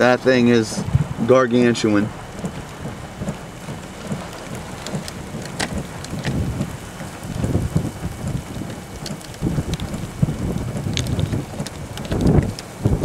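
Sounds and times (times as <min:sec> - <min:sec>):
low rumble: 0:00.0 - 0:13.0
raindrops ticking sharply: 0:00.0 - 0:13.0
steady rain: 0:00.0 - 0:13.0.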